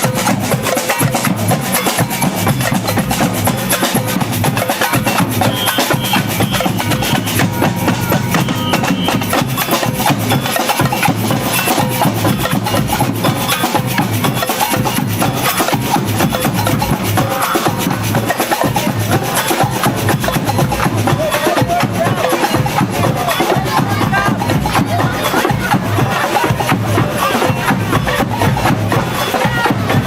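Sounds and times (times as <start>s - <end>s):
samba drums: 0.0s - 30.0s
wood block percussion: 0.0s - 30.0s.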